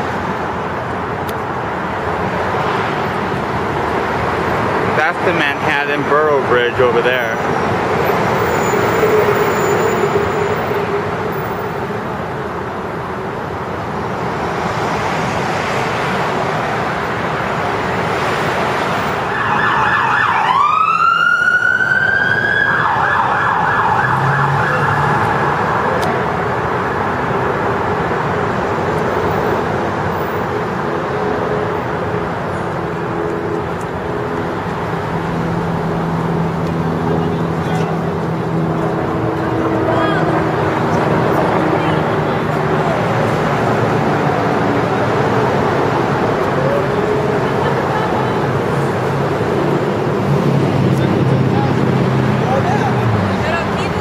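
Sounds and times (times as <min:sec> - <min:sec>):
road traffic noise: 0:00.0 - 0:54.0
emergency vehicle siren: 0:03.0 - 0:14.2, 0:16.9 - 0:54.0.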